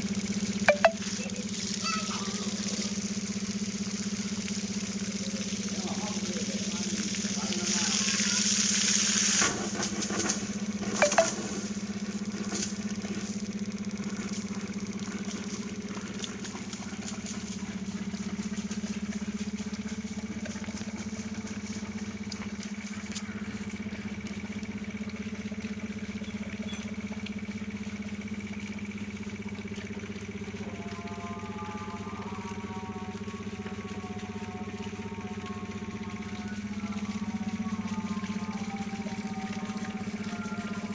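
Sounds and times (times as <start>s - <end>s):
motor humming: 0.0s - 40.9s.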